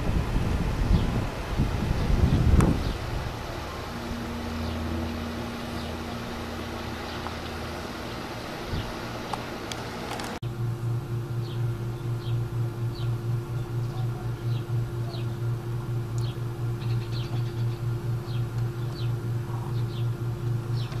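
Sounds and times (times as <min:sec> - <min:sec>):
pulsing mechanical hum: 0:00.0 - 0:21.0
steady high tone: 0:02.8 - 0:20.9.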